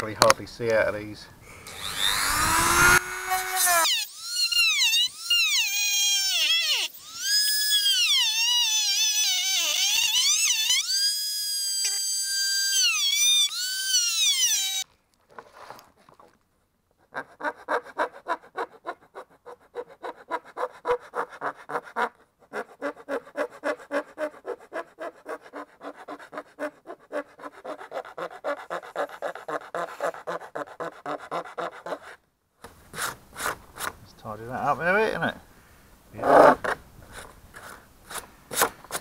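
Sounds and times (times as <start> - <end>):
hand saw cutting plastic: 1.6 - 14.8, 17.8 - 34.0, 36.5 - 39.0.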